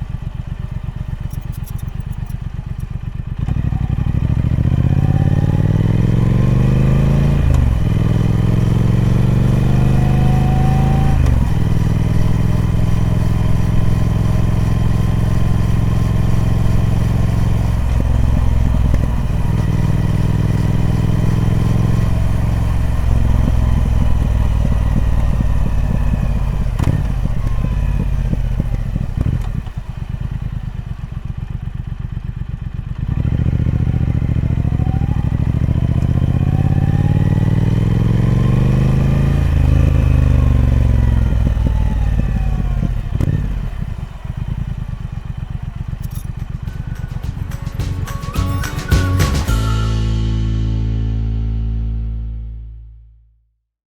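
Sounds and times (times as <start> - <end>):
motorcycle engine revving: 0.0 - 52.4.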